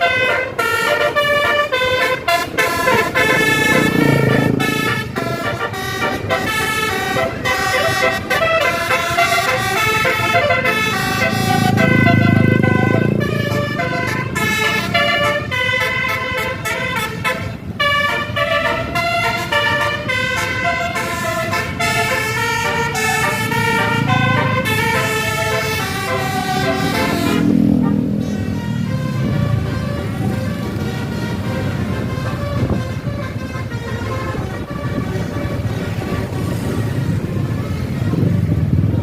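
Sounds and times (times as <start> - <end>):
multi-tone air horn melody: 0.0 - 39.0.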